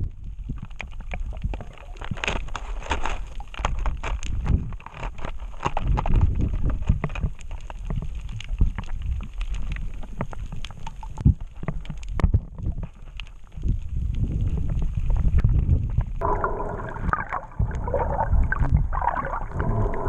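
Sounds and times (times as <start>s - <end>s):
muffled underwater rumble: 0.0s - 20.0s
sharp crackling clicks: 0.6s - 20.0s.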